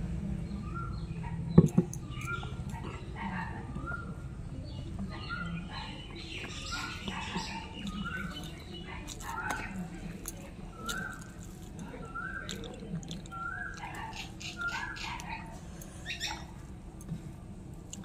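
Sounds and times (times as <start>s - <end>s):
bird chirping: 0.5s - 9.8s, 10.7s - 16.6s.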